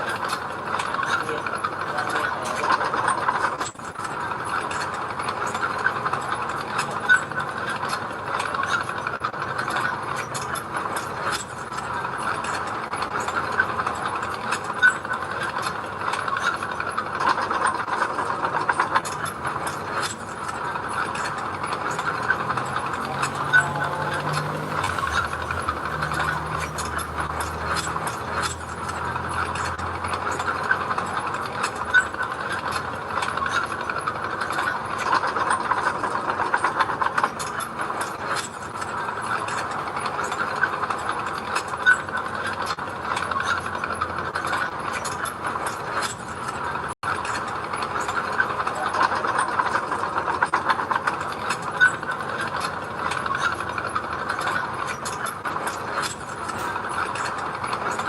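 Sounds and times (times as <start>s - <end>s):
earthmoving machinery engine: 0.0s - 58.0s
metallic clatter and rattle: 0.0s - 58.0s.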